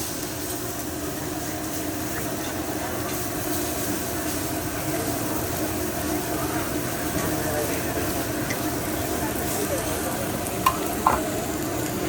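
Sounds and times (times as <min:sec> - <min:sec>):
restaurant dining room din: 0:00.0 - 0:12.0.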